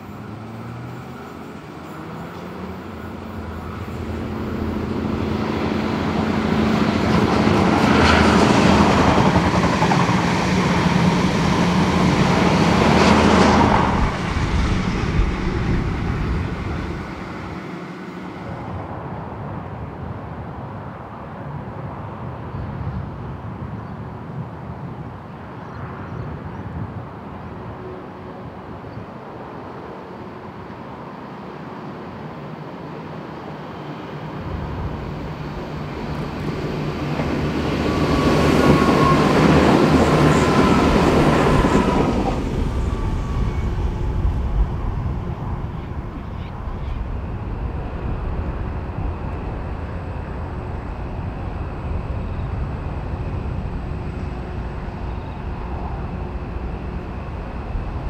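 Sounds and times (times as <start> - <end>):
diesel train passing: 0.0 - 23.6, 24.6 - 58.0
approaching passenger train: 0.0 - 58.0.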